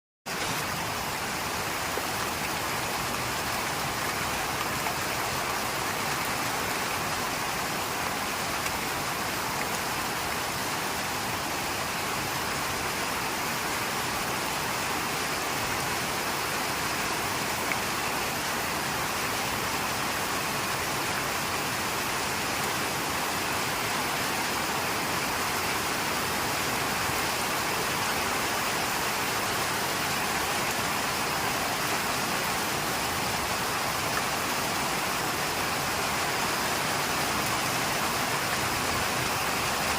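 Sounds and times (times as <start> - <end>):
rain falling: 0.3 - 39.9.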